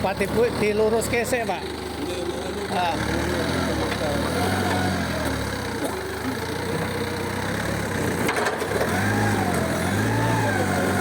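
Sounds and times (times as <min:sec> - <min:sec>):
vehicle engine whining: 0:00.0 - 0:11.0.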